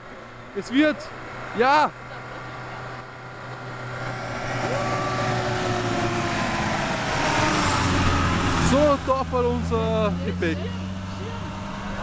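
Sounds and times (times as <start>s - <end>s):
van driving past: 0.2s - 12.0s.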